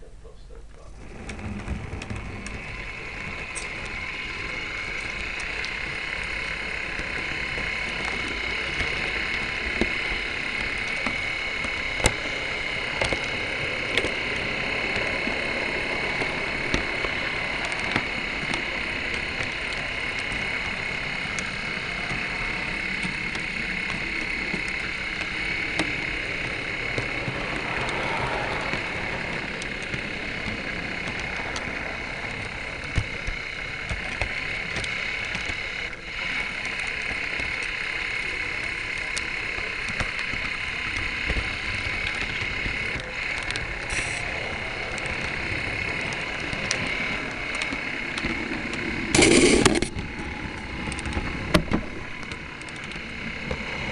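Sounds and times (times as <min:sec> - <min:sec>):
electric motor whine: 0:00.0 - 0:53.9
wheels clicking over rail joints: 0:00.0 - 0:53.9
rolling wheel noise: 0:00.7 - 0:53.9.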